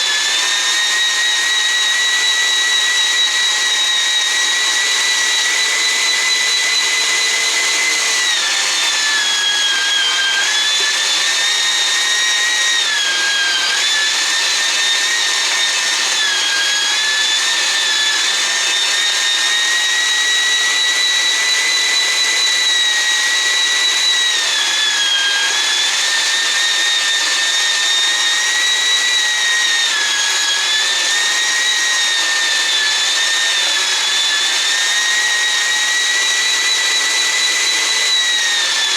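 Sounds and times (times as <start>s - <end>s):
meat grinder motor whining: 0.0s - 38.9s.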